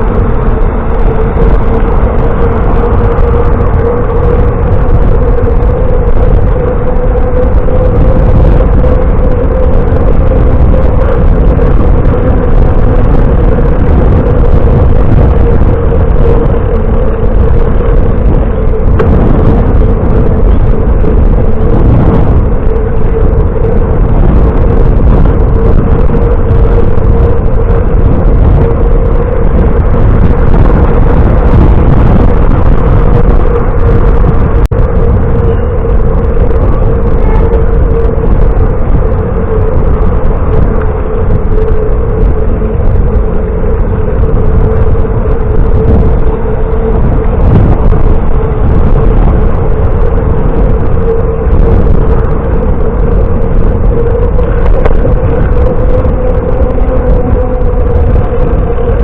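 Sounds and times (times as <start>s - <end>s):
mid-pitched hum: 0.0s - 59.0s
wind and road noise: 0.0s - 59.0s.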